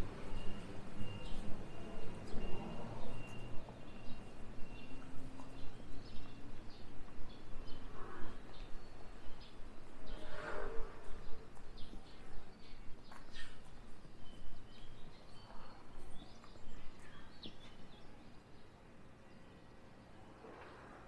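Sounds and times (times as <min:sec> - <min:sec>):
small birds chirping: 0:00.0 - 0:10.2, 0:11.0 - 0:20.1.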